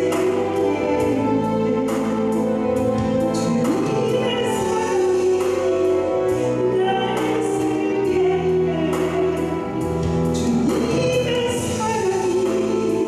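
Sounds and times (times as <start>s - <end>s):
instrumental accompaniment: 0.0s - 13.0s
woman singing into microphone: 0.0s - 13.0s.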